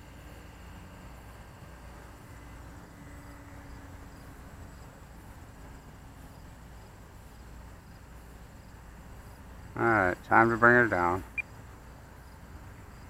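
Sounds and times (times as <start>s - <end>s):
crickets chirping: 0.3s - 13.0s.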